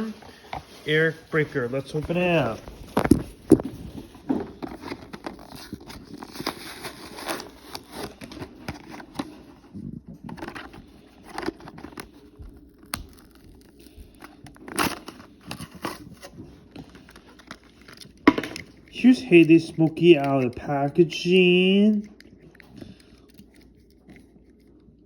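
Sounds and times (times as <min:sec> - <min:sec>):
plastic packaging crinkling and snapping: 0:00.4 - 0:25.0.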